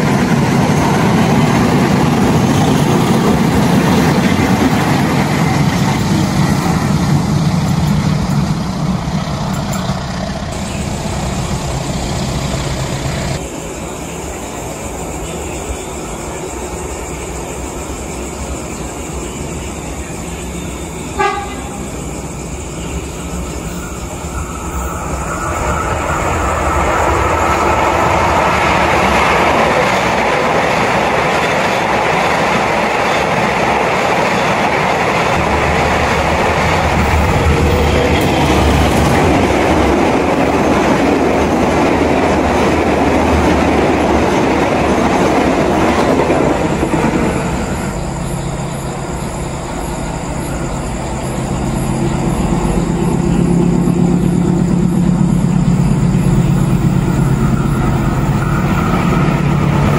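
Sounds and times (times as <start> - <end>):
train rushing over rails: 0.0 - 59.9.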